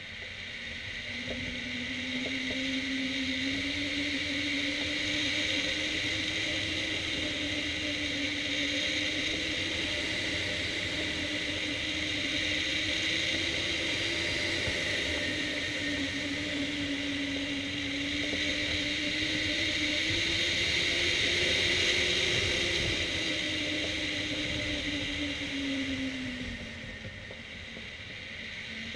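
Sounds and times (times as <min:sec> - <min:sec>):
wavering humming tone: 0:00.0 - 0:28.9.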